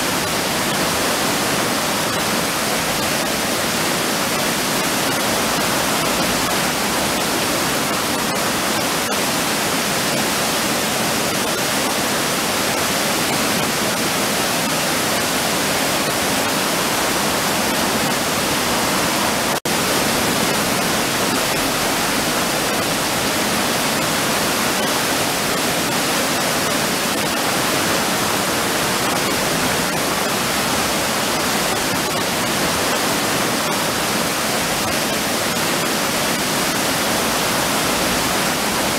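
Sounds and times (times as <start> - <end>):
river rushing over weir: 0.0 - 38.9.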